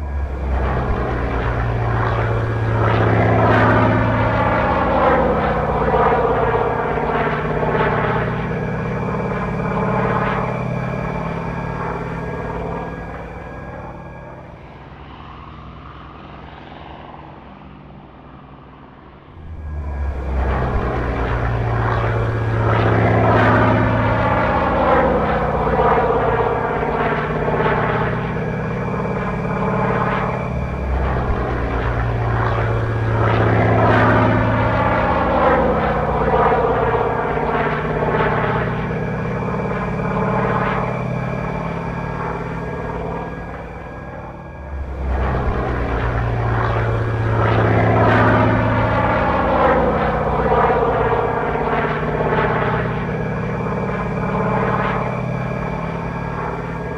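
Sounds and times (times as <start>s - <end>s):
model plane engine sound: 0.0s - 56.9s.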